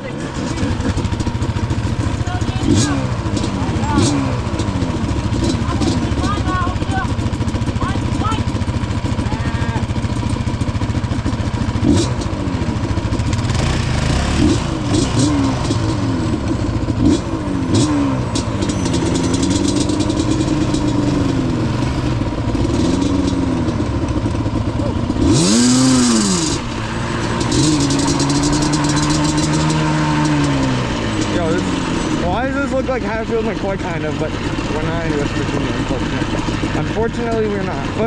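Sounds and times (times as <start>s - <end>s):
two-stroke engine revving: 0.0s - 38.0s.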